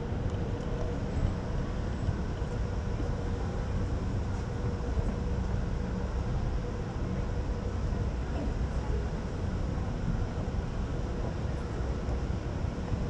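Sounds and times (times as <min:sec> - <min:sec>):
escalator mechanical rumble: 0:00.0 - 0:13.0.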